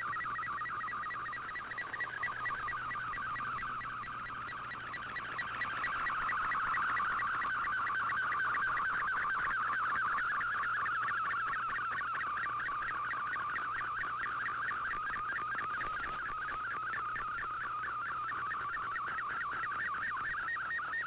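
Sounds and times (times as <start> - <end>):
warbling data tone: 0.0 - 21.0.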